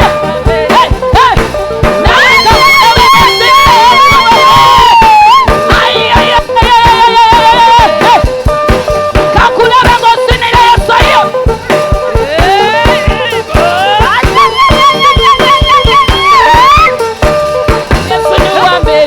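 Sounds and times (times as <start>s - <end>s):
fast steady drum beat: 0.0s - 19.0s
gospel praise band music: 0.0s - 19.0s
lead melody with slides: 0.0s - 19.0s.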